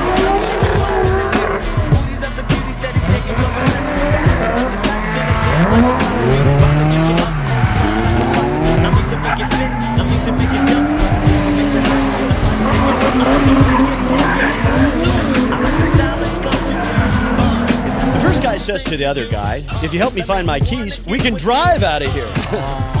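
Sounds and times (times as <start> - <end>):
tyres squealing: 0.0 - 19.3
car engines revving: 0.0 - 23.0.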